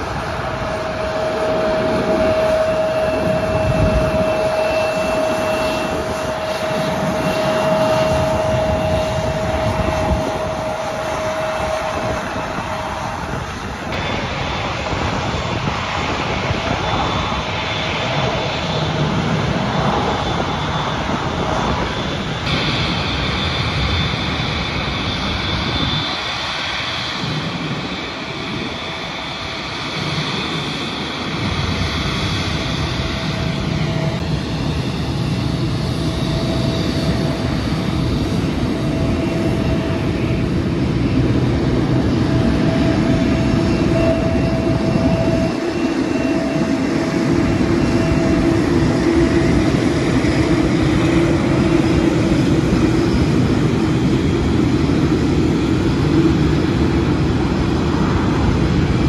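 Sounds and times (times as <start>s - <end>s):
jet engines whining and rumbling: 0.0s - 59.0s.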